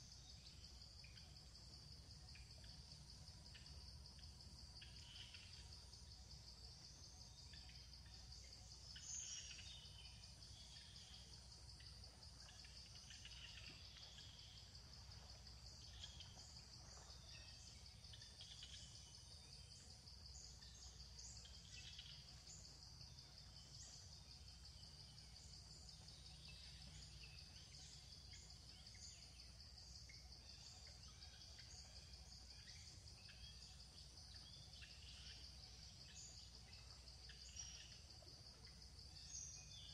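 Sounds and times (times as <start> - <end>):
pulsing insect trill: 0.0 - 39.9.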